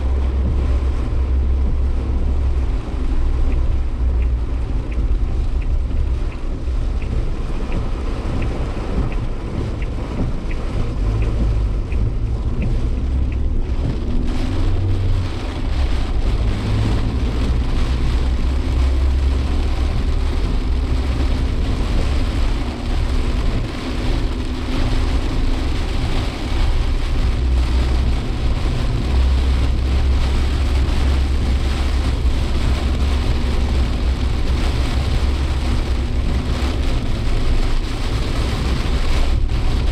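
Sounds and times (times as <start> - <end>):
faint regular ticking: 0.0 - 39.5
engine and road rumble: 0.0 - 39.9
rain hissing on car: 0.0 - 39.9.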